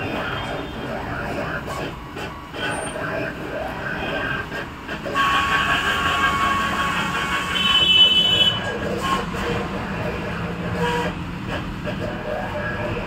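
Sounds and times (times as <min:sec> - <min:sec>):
high steady whine: 0:00.0 - 0:13.0.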